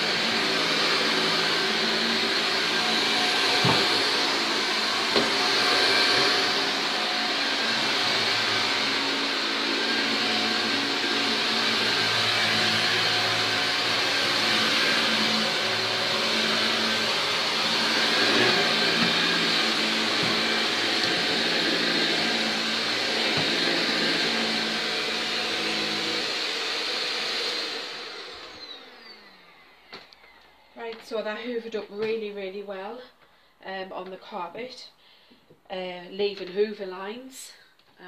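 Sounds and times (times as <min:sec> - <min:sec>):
vacuum cleaner motor whine: 0:00.0 - 0:31.0.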